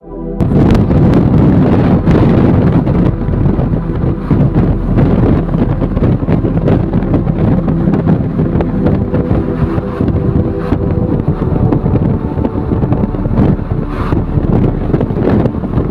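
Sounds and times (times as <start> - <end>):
low engine hum: 0.0 - 15.9
wind buffeting microphone: 0.0 - 15.9.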